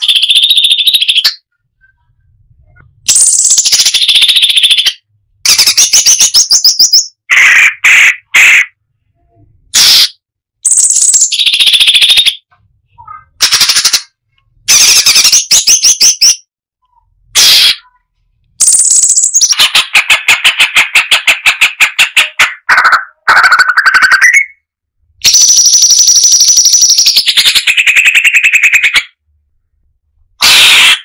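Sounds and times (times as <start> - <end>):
bird singing rapid phrases: 0.0 - 8.8, 9.7 - 29.2, 30.4 - 31.0.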